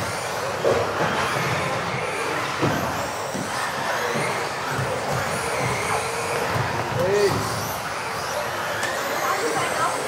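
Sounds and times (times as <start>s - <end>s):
electric motor whines: 0.0s - 10.0s
tyre and drivetrain noise: 0.0s - 10.0s.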